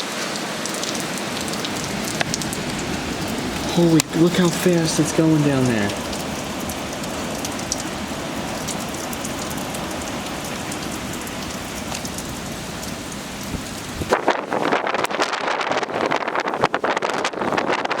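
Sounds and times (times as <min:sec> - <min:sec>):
heavy wind-driven rain: 0:00.0 - 0:18.0.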